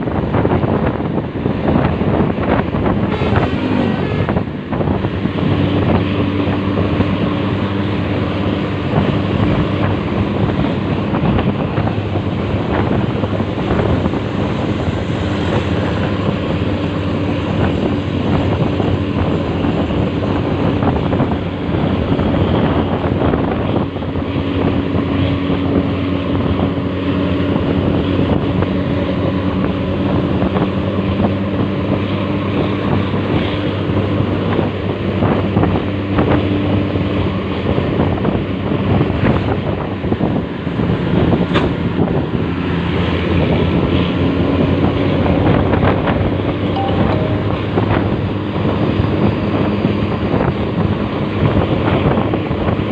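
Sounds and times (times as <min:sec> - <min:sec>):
wind rushing over microphone: 0:00.0 - 0:52.9.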